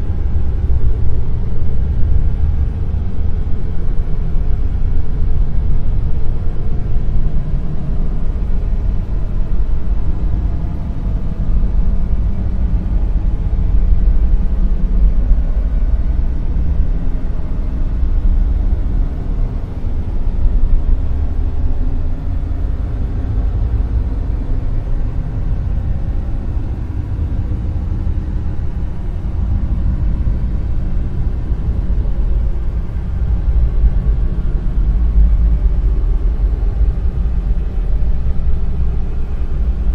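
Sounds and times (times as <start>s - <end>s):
deep steady dark noise: 0.0s - 39.9s.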